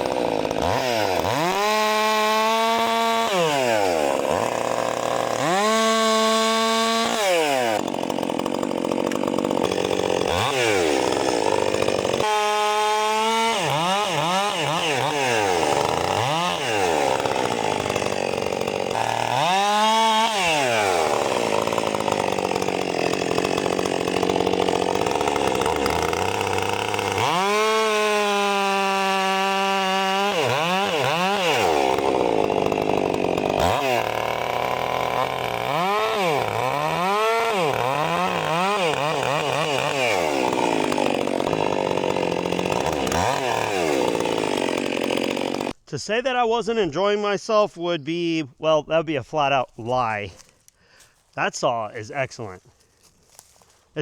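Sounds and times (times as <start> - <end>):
chainsaw cutting wood: 0.0 - 45.8, 49.3 - 54.0.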